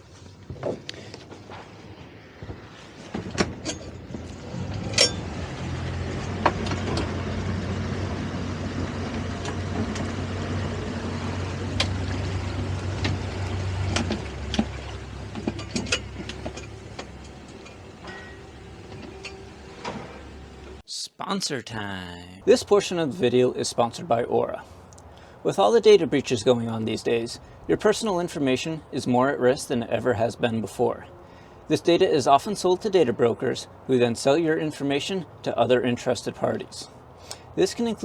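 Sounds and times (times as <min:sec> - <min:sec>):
boat engine humming: 0:03.9 - 0:20.8, 0:22.4 - 0:37.9.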